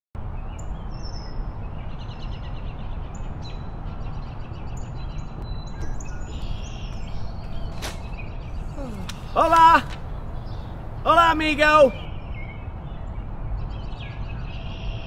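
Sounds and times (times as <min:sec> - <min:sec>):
small birds chirping: 0:00.4 - 0:14.9.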